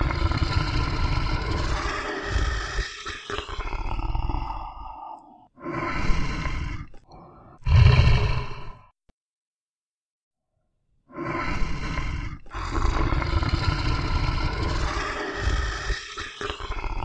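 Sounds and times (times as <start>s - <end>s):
bear growling: 0.0s - 8.9s, 11.2s - 17.0s.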